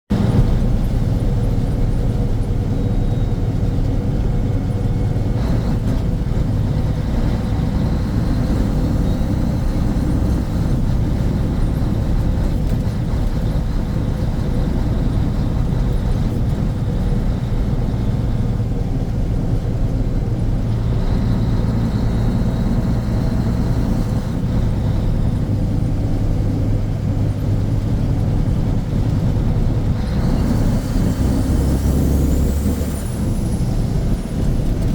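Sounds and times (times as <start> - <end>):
truck diesel engine droning: 0.1 - 34.9.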